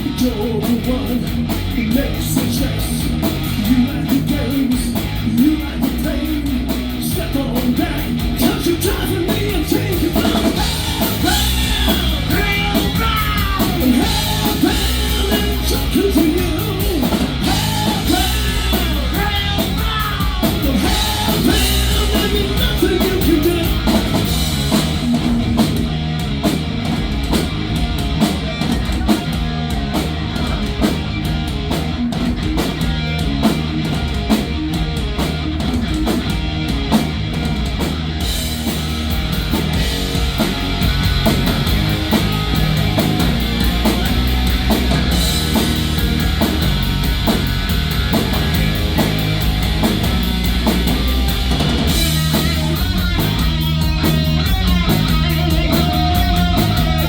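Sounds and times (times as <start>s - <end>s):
hard rock band playing: 0.0s - 57.0s
heavy electric guitars: 0.0s - 57.0s
pounding drum kit: 0.0s - 57.0s.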